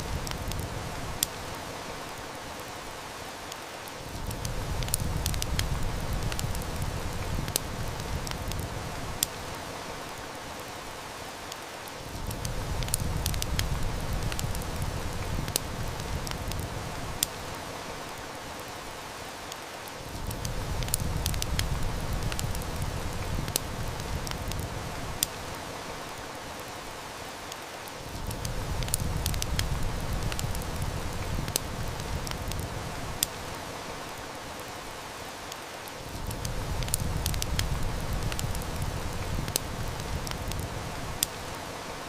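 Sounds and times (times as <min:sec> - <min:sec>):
heavy rain falling: 0:00.0 - 0:42.0
wood fire crackling: 0:00.0 - 0:42.0.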